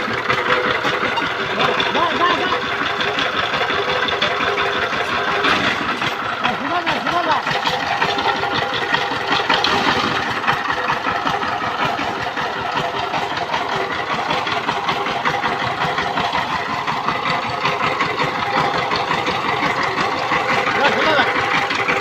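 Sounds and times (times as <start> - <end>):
diesel engine knocking steadily: 0.0 - 22.0.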